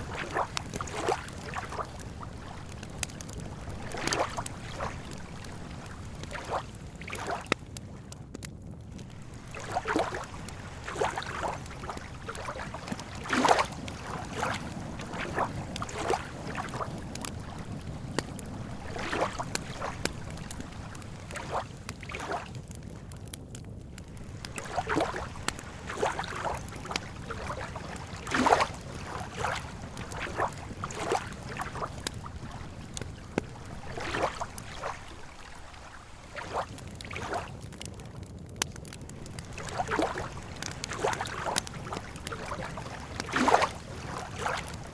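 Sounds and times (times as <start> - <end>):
small waves lapping: 0.0 - 8.0, 9.0 - 23.1, 23.9 - 37.9, 38.8 - 44.9
campfire crackling: 0.0 - 44.9.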